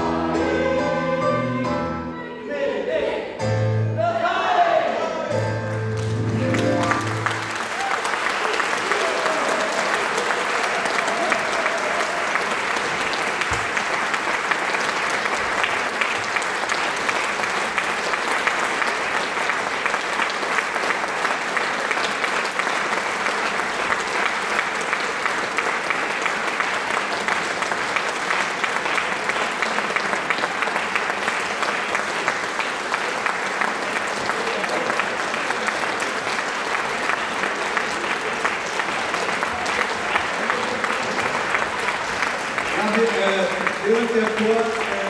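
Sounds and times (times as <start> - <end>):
audience applauding: 5.6 - 45.0.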